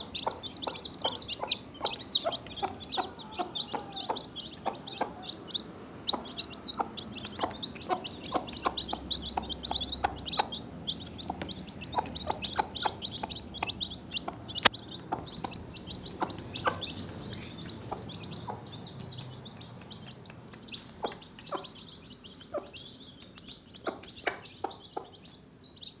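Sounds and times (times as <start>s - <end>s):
baby chicks peeping: 0.0s - 26.0s.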